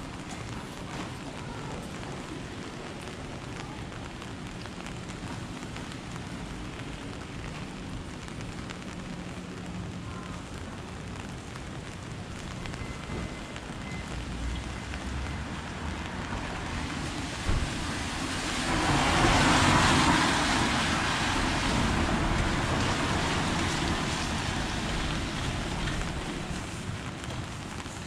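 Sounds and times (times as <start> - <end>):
steady rain falling: 0.0 - 28.0
car tyres hissing on wet road: 0.1 - 28.0.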